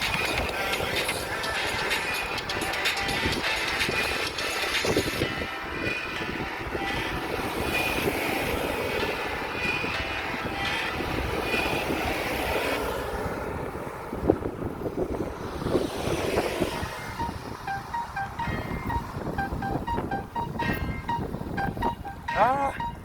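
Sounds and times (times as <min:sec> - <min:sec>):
rolling road noise: 0:00.0 - 0:23.0
wind rush on microphone: 0:00.0 - 0:23.0.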